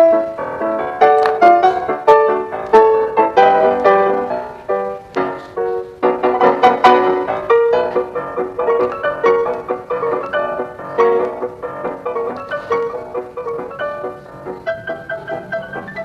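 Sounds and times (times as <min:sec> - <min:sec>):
lively piano melody: 0:00.0 - 0:16.0.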